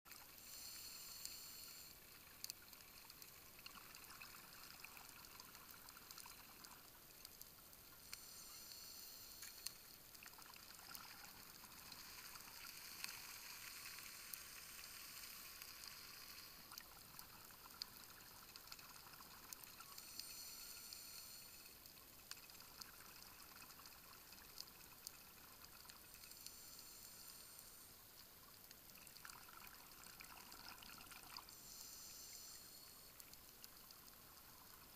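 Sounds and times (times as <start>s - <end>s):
low hiss: 0.1s - 34.9s.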